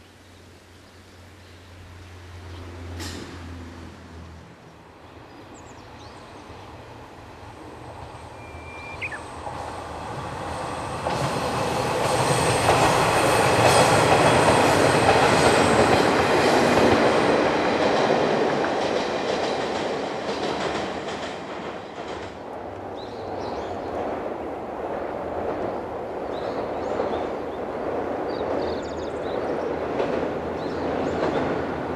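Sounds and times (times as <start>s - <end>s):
diesel train passing: 1.2s - 31.9s.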